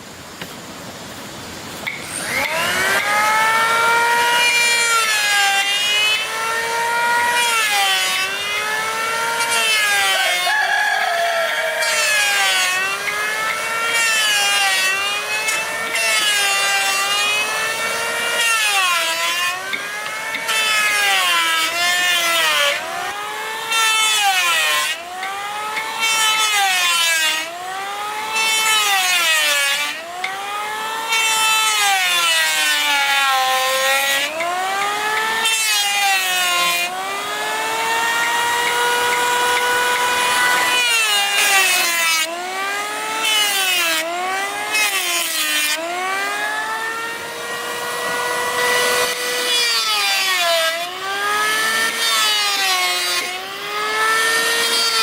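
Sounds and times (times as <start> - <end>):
power tool cutting wood: 1.8 - 55.0.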